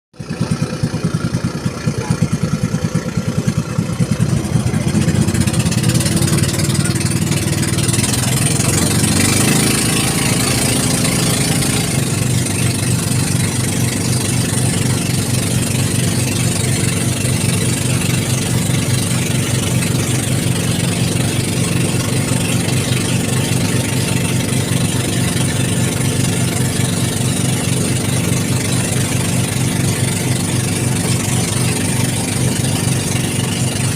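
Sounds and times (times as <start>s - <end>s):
small boat engine pulsing: 0.2s - 33.9s.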